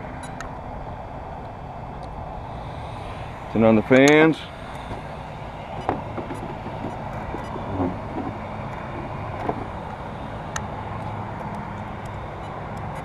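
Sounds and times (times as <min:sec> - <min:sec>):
small cooling fans humming: 0:00.0 - 0:13.0.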